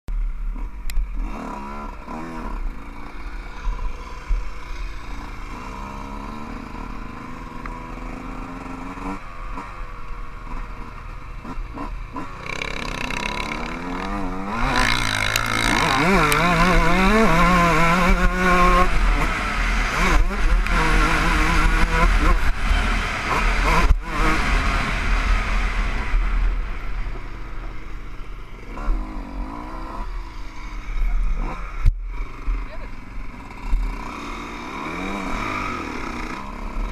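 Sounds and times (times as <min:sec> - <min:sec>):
motocross bike engine revving: 0:00.4 - 0:36.9.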